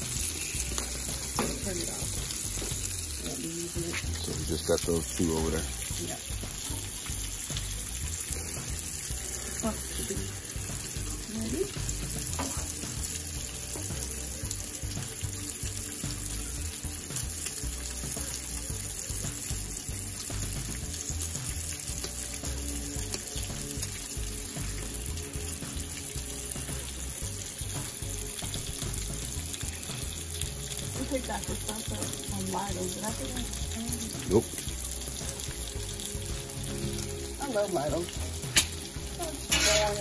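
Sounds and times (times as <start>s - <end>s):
food frying sizzle: 0.0s - 40.0s.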